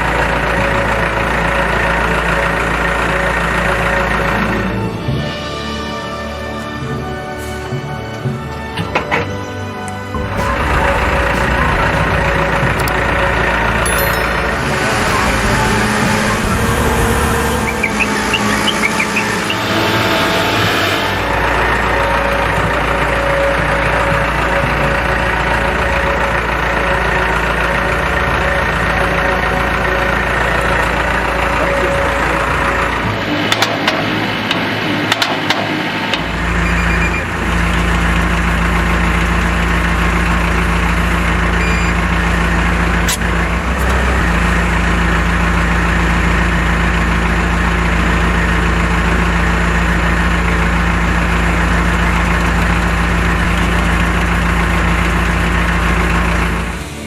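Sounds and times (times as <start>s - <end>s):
diesel engine running: 0.0s - 5.3s, 7.7s - 57.0s.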